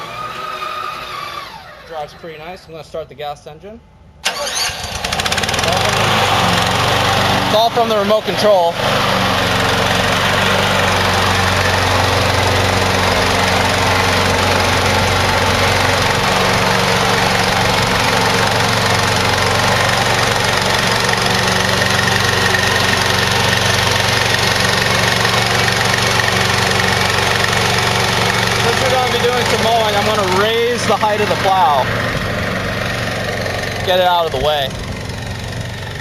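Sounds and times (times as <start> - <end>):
mower engine running: 0.0 - 2.3, 4.2 - 36.0.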